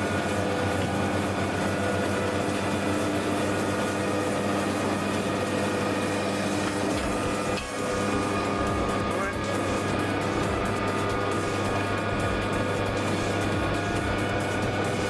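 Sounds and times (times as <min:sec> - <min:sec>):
machinery humming and whirring: 0:00.0 - 0:15.0.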